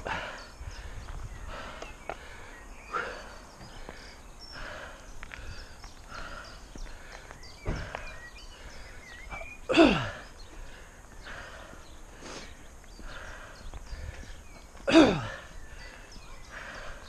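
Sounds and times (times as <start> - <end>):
birds chirping faintly: 0.0 - 17.0
cyclist breathing hard: 0.0 - 17.0.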